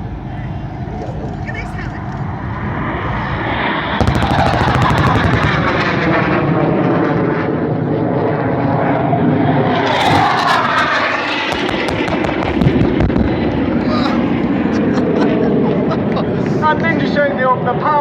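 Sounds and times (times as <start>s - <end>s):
jet whooshing past: 0.0s - 15.8s
jet engines roaring: 0.0s - 18.0s.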